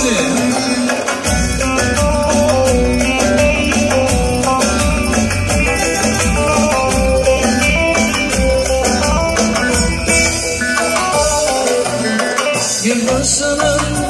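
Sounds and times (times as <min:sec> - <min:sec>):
folk-pop instrumental music: 0:00.0 - 0:14.0.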